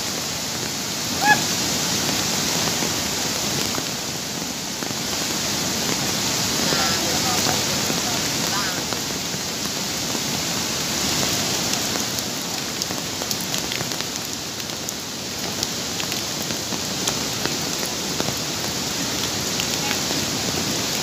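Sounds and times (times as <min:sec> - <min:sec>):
heavy rain falling: 0:00.0 - 0:21.0
raindrops ticking close by: 0:00.0 - 0:21.0.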